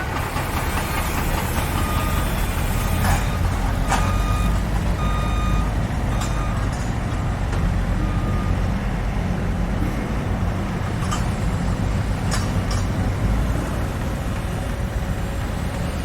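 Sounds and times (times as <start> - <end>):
heavy machinery engine rumble: 0.0 - 16.0.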